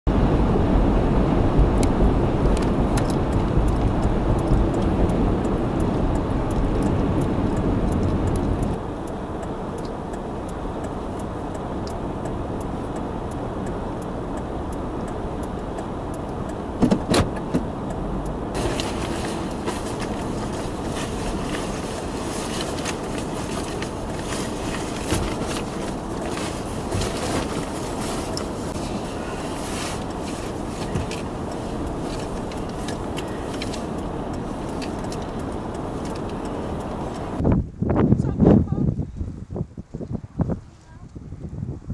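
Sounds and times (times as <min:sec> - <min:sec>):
wind crackling on microphone: 0:00.1 - 0:16.3, 0:17.3 - 0:41.9
car road and engine rumble: 0:00.1 - 0:41.9
wind hissing outdoors: 0:00.1 - 0:41.9.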